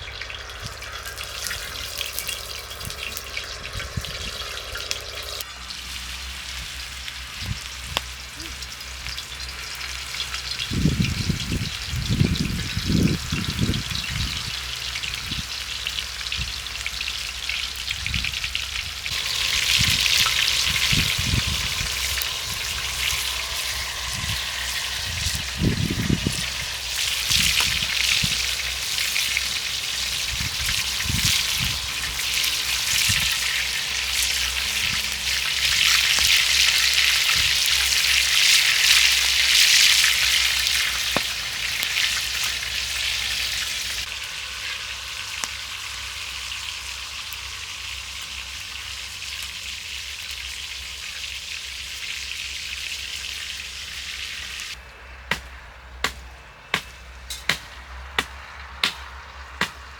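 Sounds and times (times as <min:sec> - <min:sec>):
hot oil sizzling in a pan: 0:00.0 - 0:54.8.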